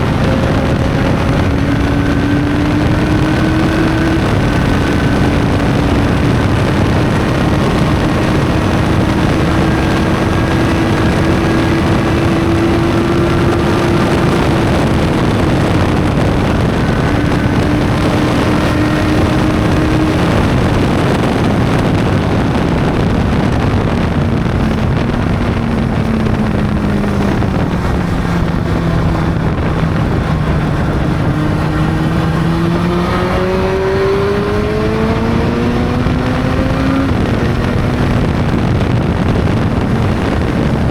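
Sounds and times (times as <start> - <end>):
motorcycle engine running: 0.0 - 40.9
wind rush: 0.0 - 40.9.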